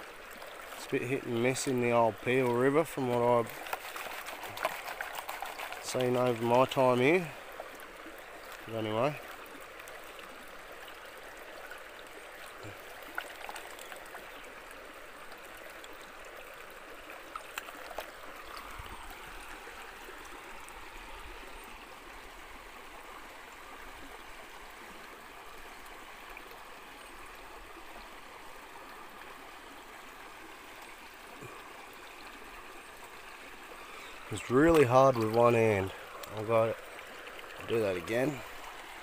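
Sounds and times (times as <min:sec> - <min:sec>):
river water flowing over rocks: 0:00.0 - 0:39.0.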